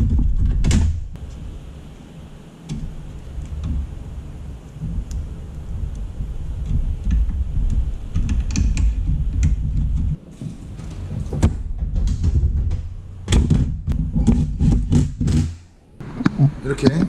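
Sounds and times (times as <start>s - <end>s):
low rumble: 0.0s - 15.2s.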